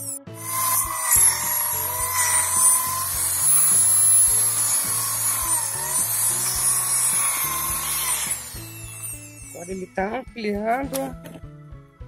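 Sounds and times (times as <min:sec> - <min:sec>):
electric drill boring into wood: 0:00.0 - 0:09.9.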